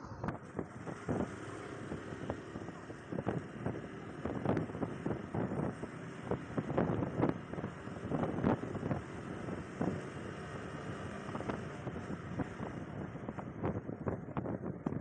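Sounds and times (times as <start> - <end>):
motorcycle riding noise: 0.0 - 15.0
wind buffeting microphone: 0.0 - 15.0.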